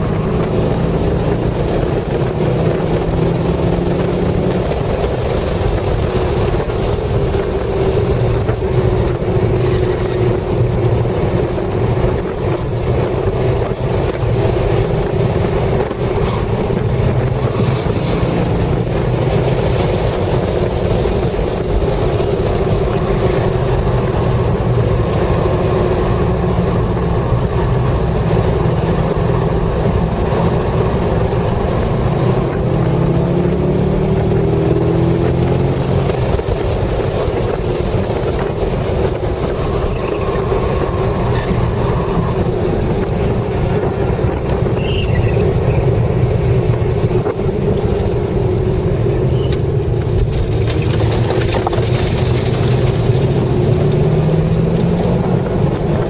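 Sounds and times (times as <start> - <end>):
car engine revving: 0.0 - 56.0
wind noise inside car: 0.0 - 56.0.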